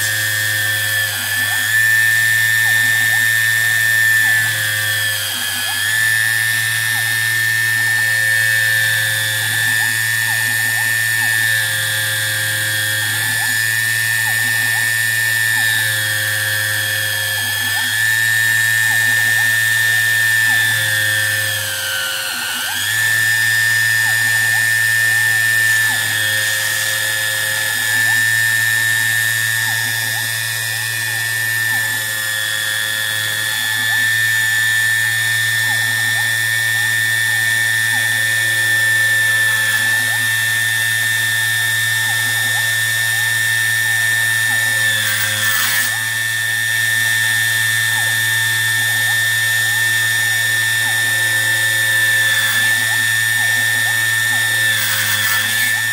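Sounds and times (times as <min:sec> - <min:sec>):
lathe motor whining: 0:00.0 - 0:55.9.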